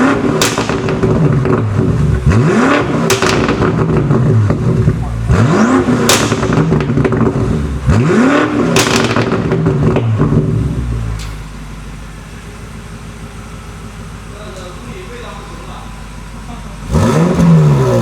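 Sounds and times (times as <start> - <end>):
car engine revving: 0.0 - 14.4, 15.1 - 18.0
car engine idling: 0.0 - 18.0
exhaust crack: 0.0 - 18.0.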